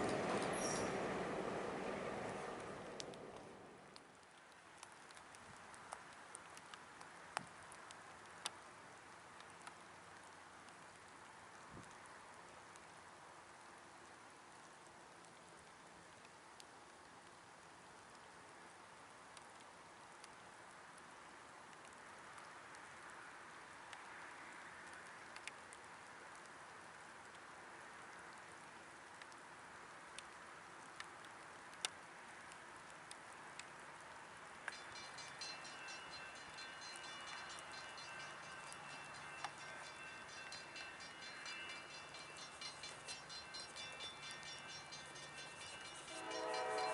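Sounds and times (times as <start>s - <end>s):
faint light rain: 0.0s - 46.9s
raindrops ticking: 2.6s - 46.9s.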